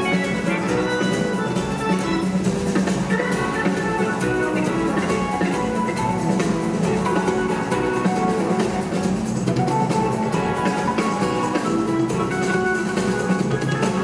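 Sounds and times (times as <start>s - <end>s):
bass: 0.0s - 14.0s
drum kit beat: 0.0s - 14.0s
electric guitar: 0.0s - 14.0s
organ chords: 0.0s - 14.0s.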